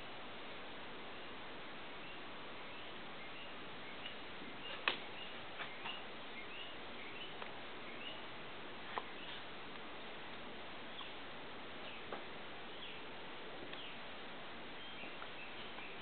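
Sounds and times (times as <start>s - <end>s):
room hiss: 0.0s - 16.0s.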